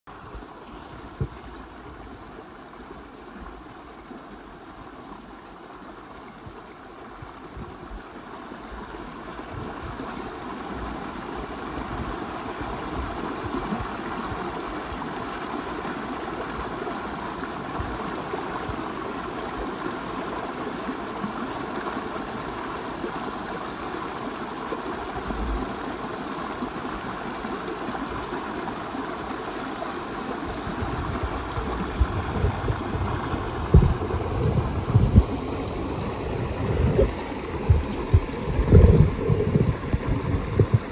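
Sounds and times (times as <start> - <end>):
stream rushing over boulders: 0.1 - 40.9.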